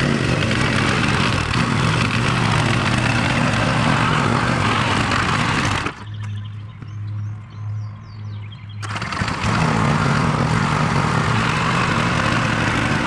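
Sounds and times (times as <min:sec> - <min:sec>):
motor engine running: 0:00.0 - 0:07.9, 0:08.7 - 0:13.0.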